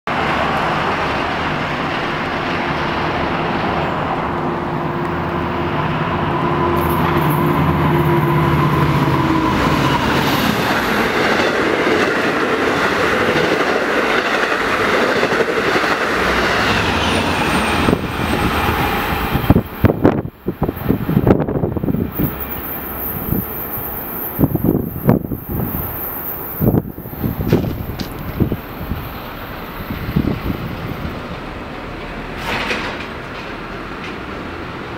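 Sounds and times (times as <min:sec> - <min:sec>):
locomotive engine humming: 0:00.1 - 0:34.9
train wheels clattering on rails: 0:06.4 - 0:34.8.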